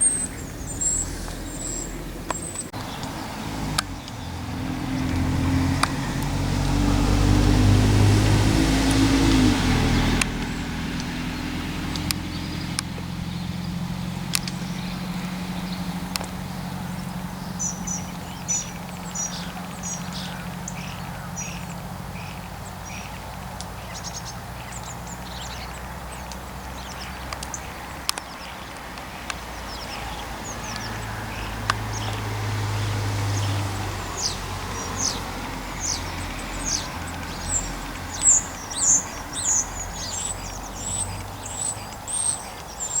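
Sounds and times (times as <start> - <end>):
faint low engine hum: 0.0 - 43.0
small birds chirping: 0.0 - 43.0.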